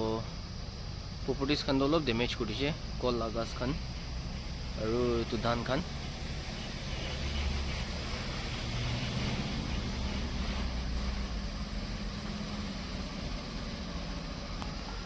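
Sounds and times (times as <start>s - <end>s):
constant hiss: 0.0s - 15.0s
vehicle engine running: 0.0s - 15.0s.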